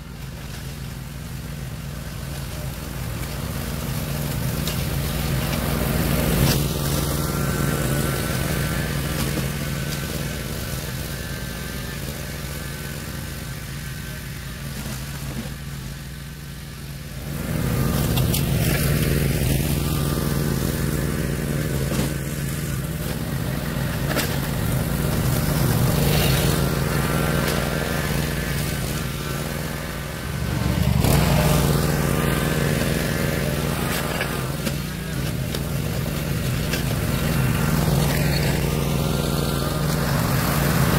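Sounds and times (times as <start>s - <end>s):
riding mower engine running: 0.0s - 40.9s.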